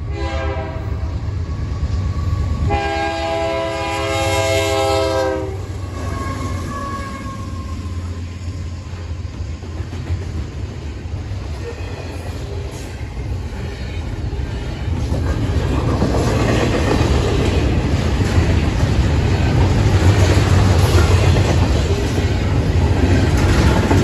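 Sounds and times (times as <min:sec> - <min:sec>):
freight train wheels on rails: 0:00.0 - 0:24.0.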